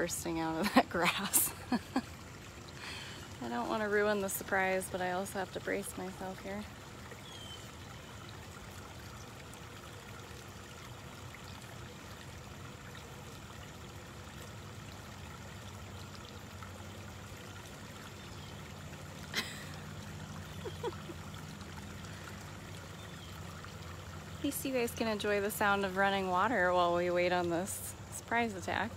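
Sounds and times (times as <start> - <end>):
water trickling and splashing: 0.0 - 28.9.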